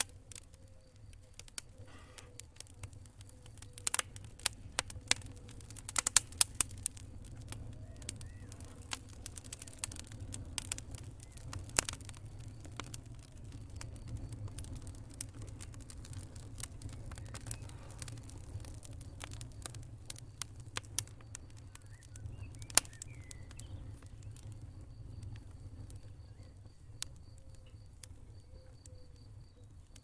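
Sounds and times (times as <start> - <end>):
low rumble of flames: 0.0 - 30.0
wood fire crackling: 0.0 - 30.0.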